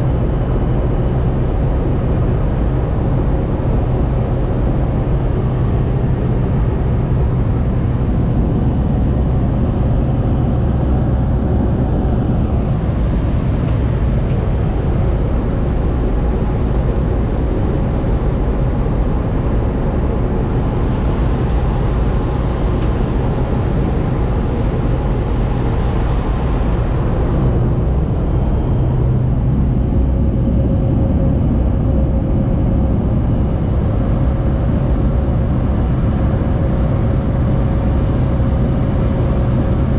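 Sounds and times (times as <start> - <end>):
airliner cabin engine hum: 0.0 - 39.9.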